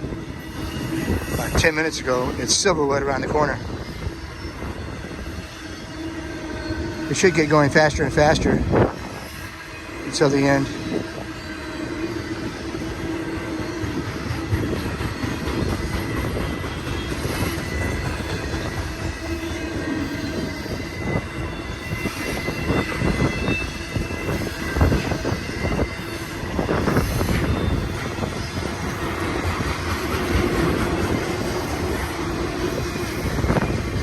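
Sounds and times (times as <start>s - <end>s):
freight train rumbling past: 0.0s - 34.0s
high wheel squeal: 0.0s - 34.0s.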